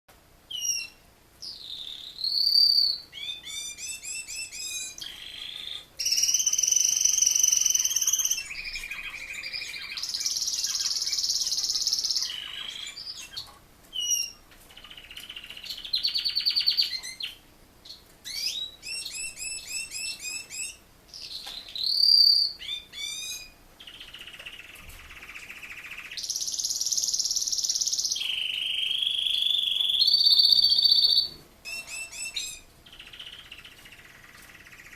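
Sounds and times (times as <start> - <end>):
canary singing trills: 0.5 - 34.9.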